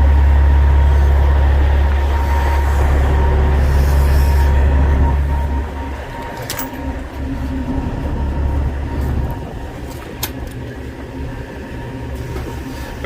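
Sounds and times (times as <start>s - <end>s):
truck diesel engine idling: 0.0s - 11.9s.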